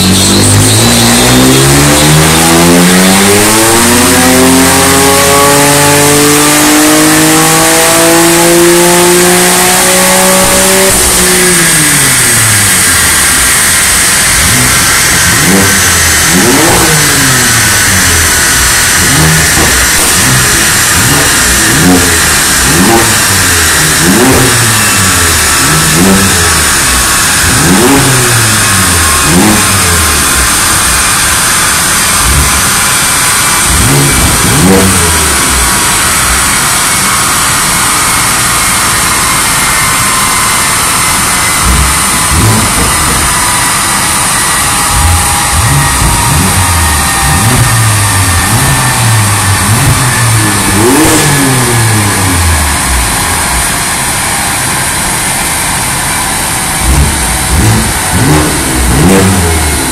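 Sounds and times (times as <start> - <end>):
car engine revving on dyno: 0.0 - 59.9
steady high whine: 0.0 - 59.9.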